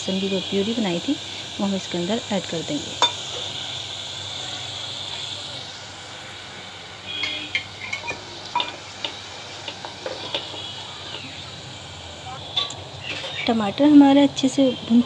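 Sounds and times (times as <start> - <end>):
puree sizzling in hot oil: 0.0 - 15.0.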